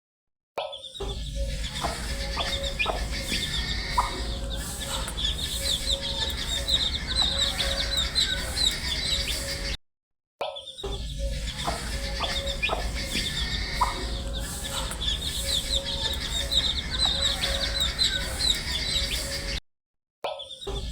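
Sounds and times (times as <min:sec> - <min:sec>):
baby chicks peeping: 0:01.0 - 0:09.8, 0:11.2 - 0:19.6.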